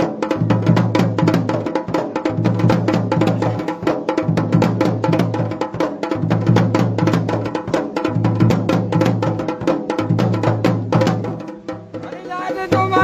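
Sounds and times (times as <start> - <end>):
drums played in fast rhythm: 0.0 - 13.0.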